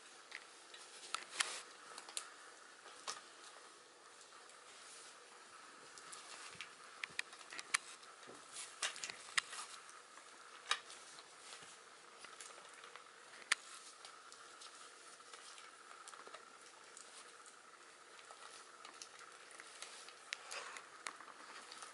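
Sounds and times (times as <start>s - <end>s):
puppies chewing paper and plastic: 0.2s - 21.9s.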